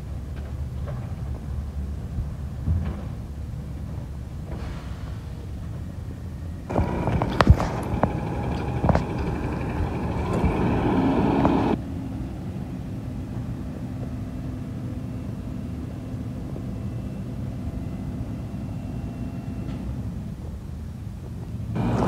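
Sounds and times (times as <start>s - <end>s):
garbage truck engine: 0.4s - 20.5s, 21.8s - 22.0s.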